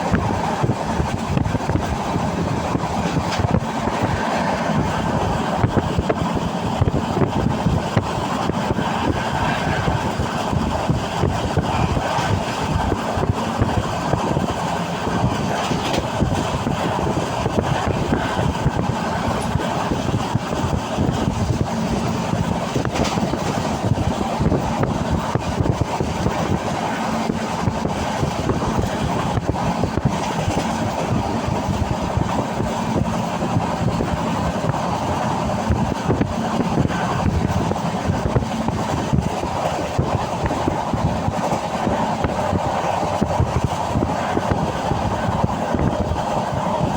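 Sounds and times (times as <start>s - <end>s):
train wheels on rails: 0.0s - 46.9s.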